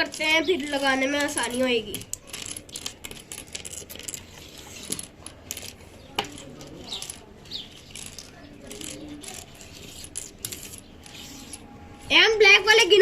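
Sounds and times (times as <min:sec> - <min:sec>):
plastic pieces clicking and clattering: 0:00.0 - 0:11.6.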